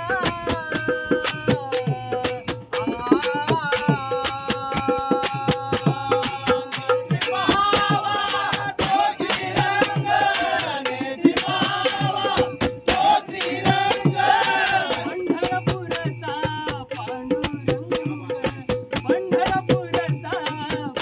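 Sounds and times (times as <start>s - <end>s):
drum strokes: 0.0s - 21.0s.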